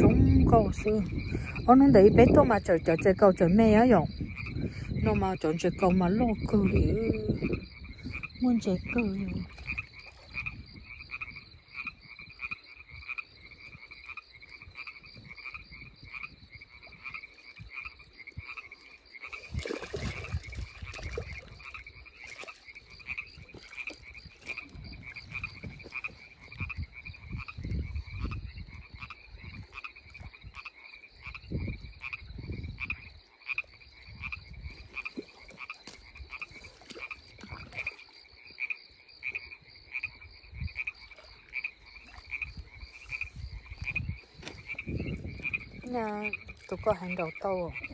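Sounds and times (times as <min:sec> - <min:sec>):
frogs calling: 0:00.0 - 0:47.9.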